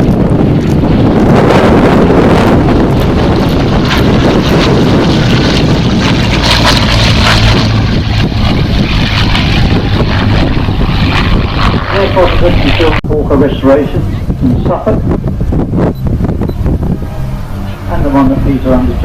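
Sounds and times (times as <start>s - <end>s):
aircraft engine droning: 0.0s - 19.0s
wind buffeting microphone: 0.0s - 19.0s.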